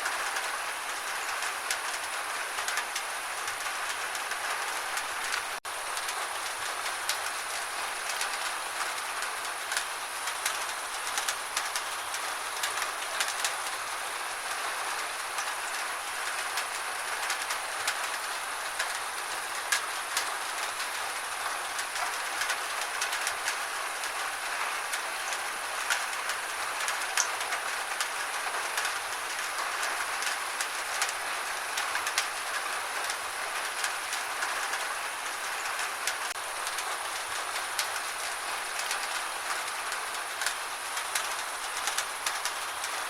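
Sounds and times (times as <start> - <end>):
gentle rain falling: 0.0 - 43.0.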